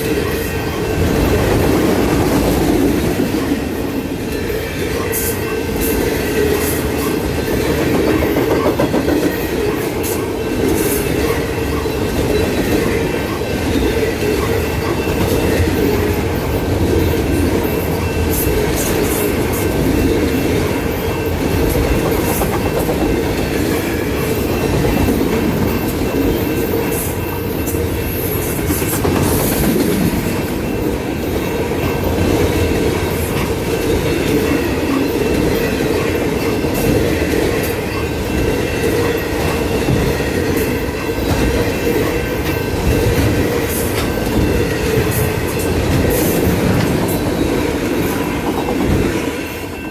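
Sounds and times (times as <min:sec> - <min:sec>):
steel wheels rumbling on rail: 0:00.0 - 0:49.9.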